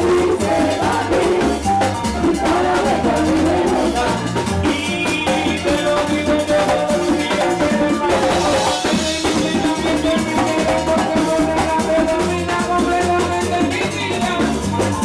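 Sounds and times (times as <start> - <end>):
bass line: 0.0 - 15.0
drums: 0.0 - 15.0
upbeat percussive folk music: 0.0 - 15.0.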